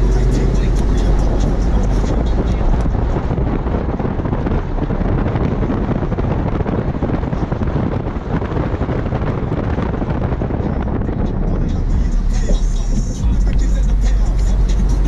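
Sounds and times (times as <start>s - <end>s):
car road noise: 0.0s - 15.0s
wind rushing over microphone: 0.0s - 15.0s.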